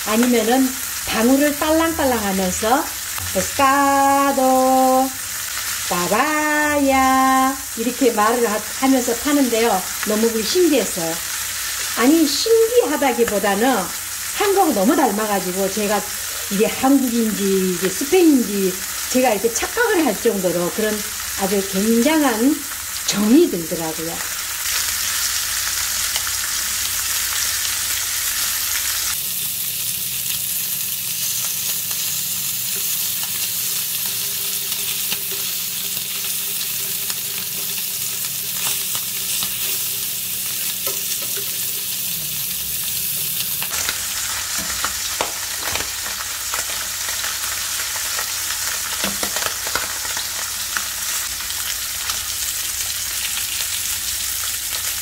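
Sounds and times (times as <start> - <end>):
fish sizzling in oil: 0.0 - 55.0.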